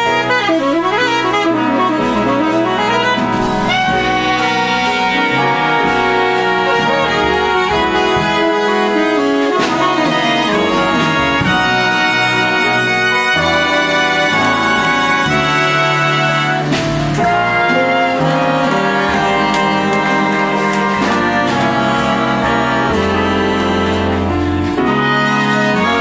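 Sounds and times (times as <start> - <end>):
jazz big band playing: 0.0 - 26.0
saxophone: 0.0 - 26.0
trombones sustained chords: 0.0 - 26.0.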